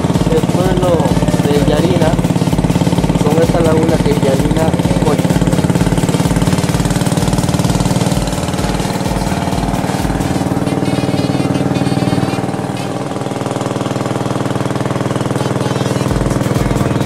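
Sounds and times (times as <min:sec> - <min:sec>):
boat motor chugging: 0:00.0 - 0:17.0.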